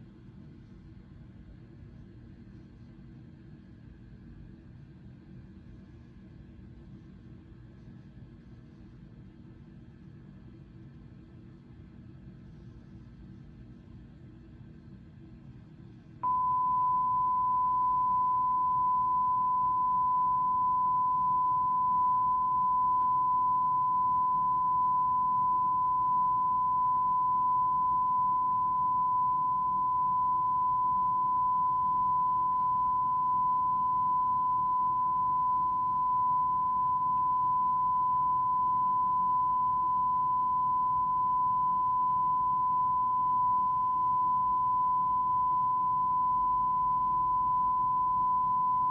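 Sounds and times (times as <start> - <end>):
faint low hum: 0.0 - 48.9.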